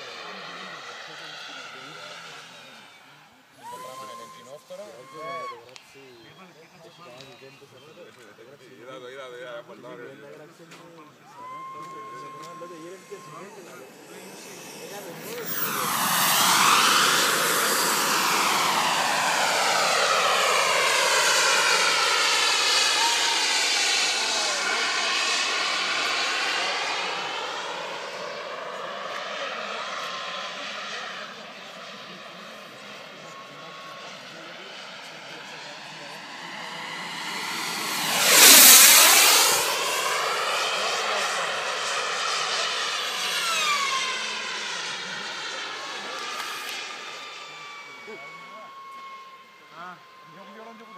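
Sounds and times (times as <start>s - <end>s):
model jet turbine: 0.0s - 50.9s.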